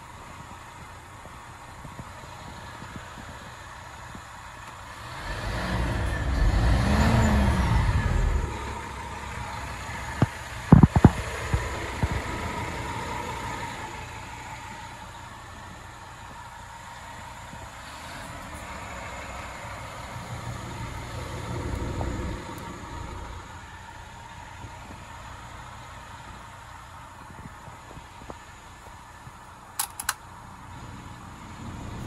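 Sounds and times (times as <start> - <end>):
diesel truck engine: 0.0 - 32.0.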